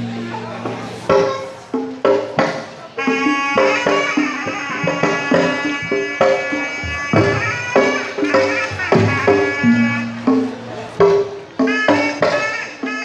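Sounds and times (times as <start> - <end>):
wind instrument melody: 0.0 - 2.0, 2.9 - 13.0
hand drums beating lively rhythm: 0.0 - 13.0.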